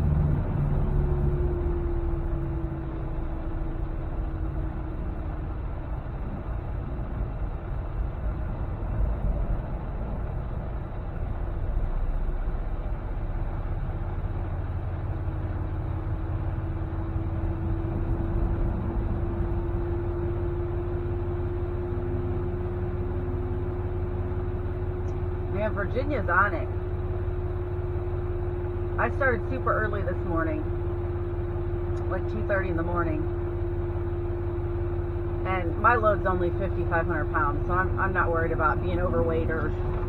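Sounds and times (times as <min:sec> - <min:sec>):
road noise: 0:00.0 - 0:40.0
steady whine: 0:00.0 - 0:40.0
truck engine drone: 0:00.0 - 0:40.0.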